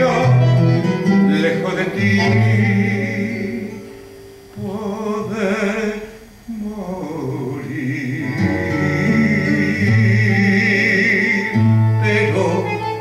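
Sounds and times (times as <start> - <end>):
instrumental tango music: 0.0 - 6.0, 7.7 - 13.0.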